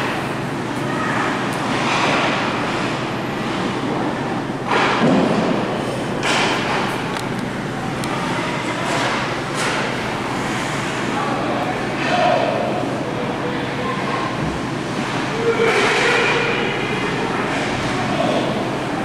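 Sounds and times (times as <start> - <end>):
ice rink noise: 0.0 - 19.0.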